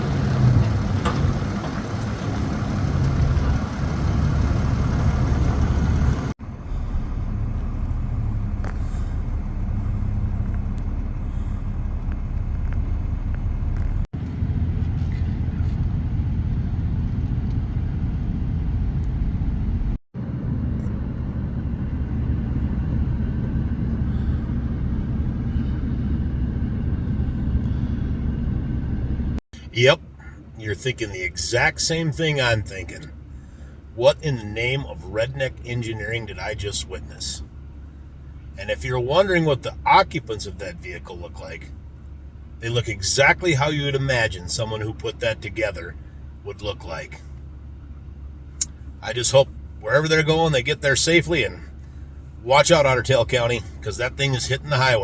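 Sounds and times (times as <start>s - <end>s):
vehicle driving on road: 0.0s - 55.0s.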